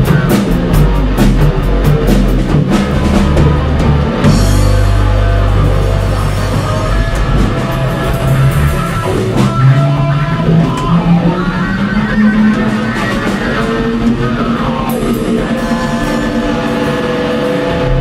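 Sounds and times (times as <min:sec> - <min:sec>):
bass guitar: 0:00.0 - 0:18.0
drums: 0:00.0 - 0:18.0
electric guitar solo: 0:03.1 - 0:18.0.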